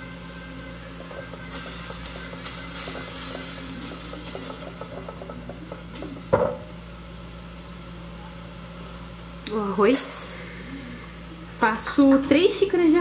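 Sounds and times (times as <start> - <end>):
rice sizzling in oil: 0.0 - 13.0.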